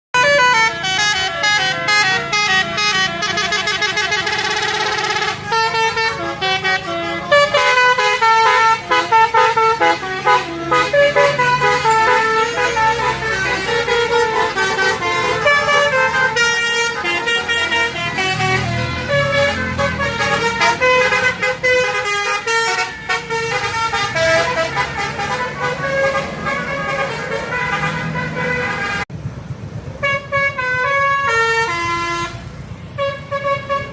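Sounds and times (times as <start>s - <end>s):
bus air horn melodies: 0.1s - 29.1s, 30.0s - 33.9s.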